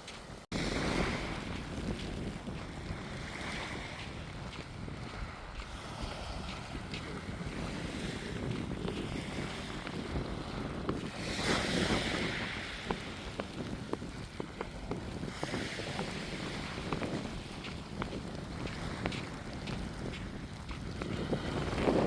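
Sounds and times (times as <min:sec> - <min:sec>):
sea waves washing onto beach: 0:00.0 - 0:22.0
wind buffeting microphone: 0:00.0 - 0:22.0.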